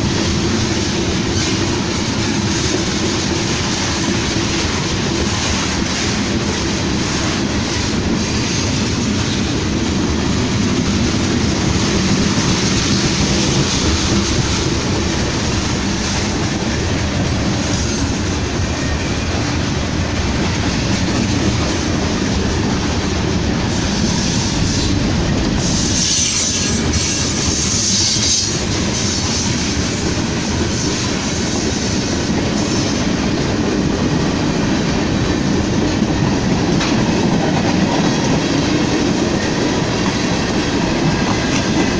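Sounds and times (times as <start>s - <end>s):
train wheels on rails: 0.0s - 41.9s.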